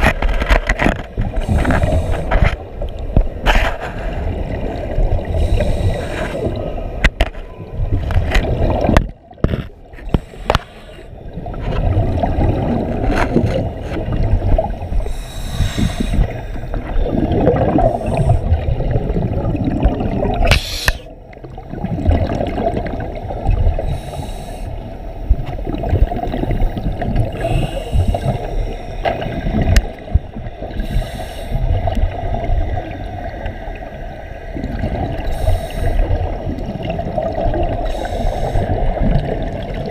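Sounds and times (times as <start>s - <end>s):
underwater rushing water with bubbles: 0.0s - 39.9s.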